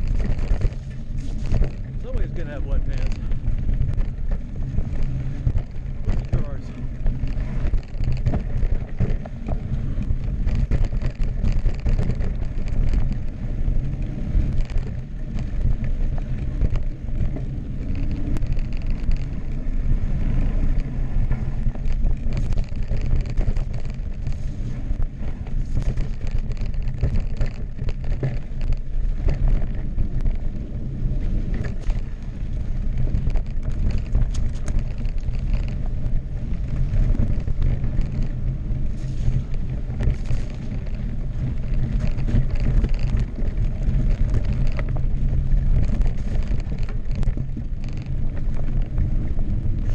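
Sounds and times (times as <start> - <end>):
bike clattering over bumps: 0.0 - 49.9
tyres rolling over dirt and rocks: 0.0 - 49.9
wind rumbling on microphone: 0.0 - 49.9.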